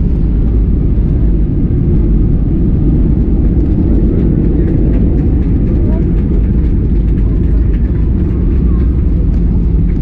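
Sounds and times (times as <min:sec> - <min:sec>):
aircraft cabin rumble: 0:00.0 - 0:10.0.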